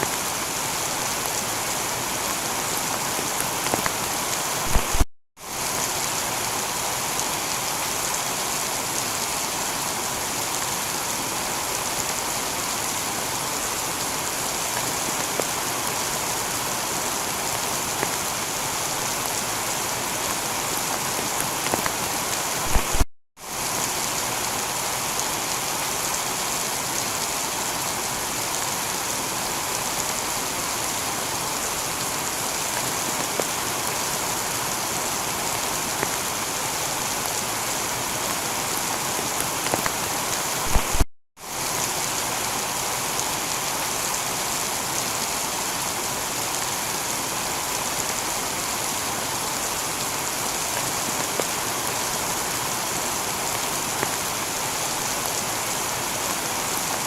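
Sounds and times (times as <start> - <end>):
individual raindrops: 0.0 - 7.8, 11.4 - 28.8, 29.4 - 46.7, 47.3 - 57.0
heavy rain on a tiled roof: 0.0 - 57.0.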